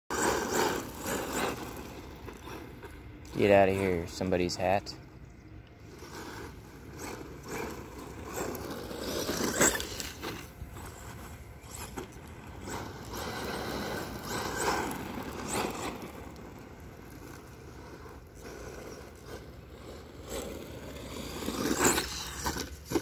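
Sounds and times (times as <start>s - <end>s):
tyres scrabbling on gravel: 0.1s - 5.0s, 5.8s - 23.0s
rc truck motor whining: 0.1s - 23.0s.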